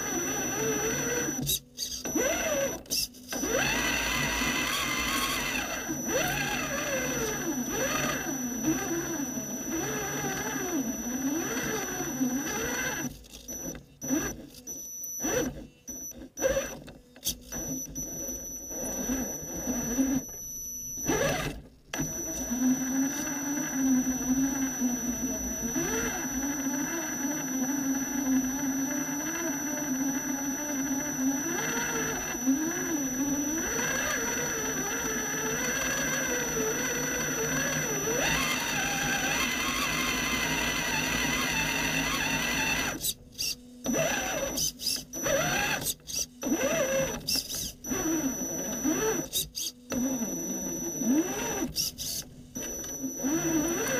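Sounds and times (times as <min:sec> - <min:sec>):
electric motor whining: 0:00.0 - 0:53.9.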